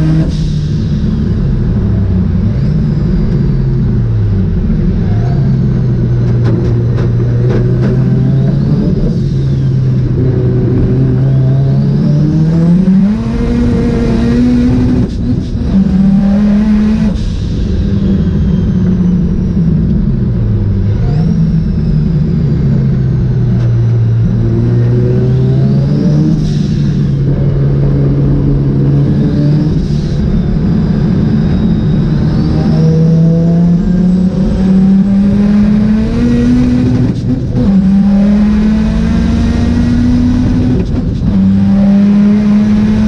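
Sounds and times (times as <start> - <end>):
car engine running hard: 0.0 - 43.0.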